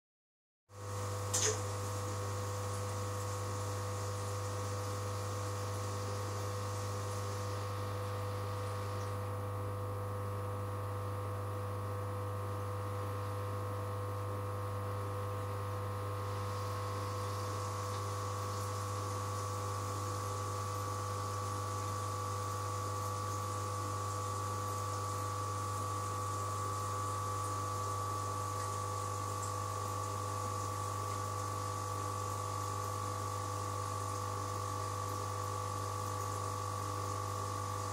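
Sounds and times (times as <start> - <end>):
aquarium air pump humming: 0.7 - 37.9.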